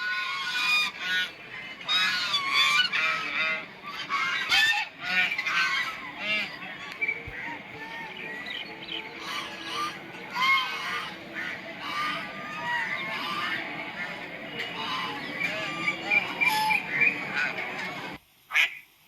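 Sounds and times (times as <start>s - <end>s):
geese honking: 0.0s - 18.7s.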